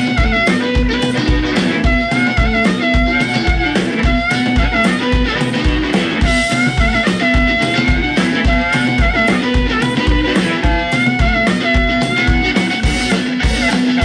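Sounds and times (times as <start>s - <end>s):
amplified blues harmonica: 0.0s - 14.0s
blues rock band: 0.0s - 14.0s.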